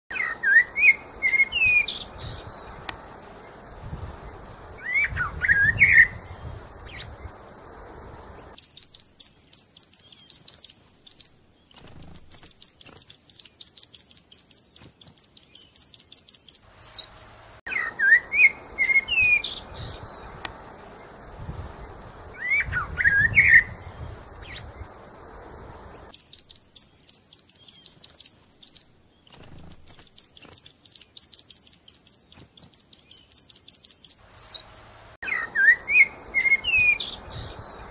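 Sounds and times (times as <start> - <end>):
background hiss: 0.1 - 37.9
birds chirping: 0.1 - 37.9.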